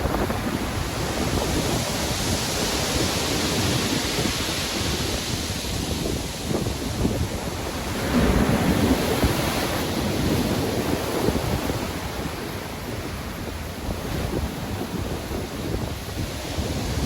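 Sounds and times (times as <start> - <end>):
stormy ocean waves breaking: 0.0 - 17.0
wind: 0.0 - 17.0.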